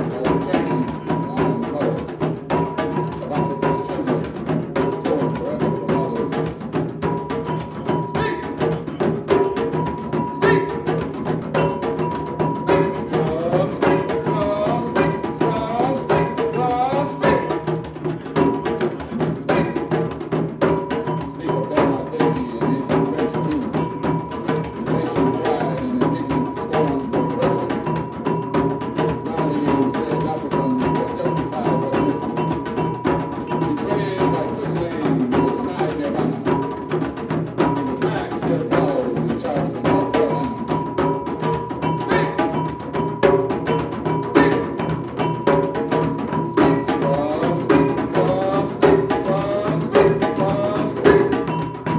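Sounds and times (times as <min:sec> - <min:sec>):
hand drums playing: 0:00.0 - 0:51.9
sustained high tone: 0:02.2 - 0:51.9.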